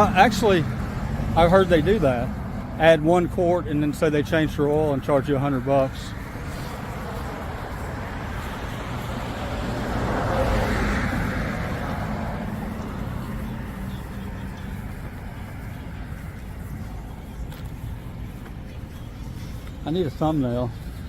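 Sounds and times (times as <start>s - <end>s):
vehicle passing by: 0.0s - 21.0s.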